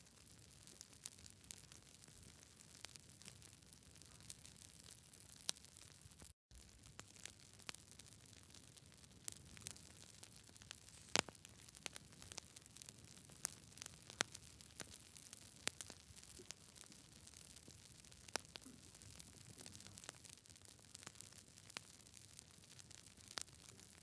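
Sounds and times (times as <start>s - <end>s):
campfire crackling and popping: 0.1s - 24.0s.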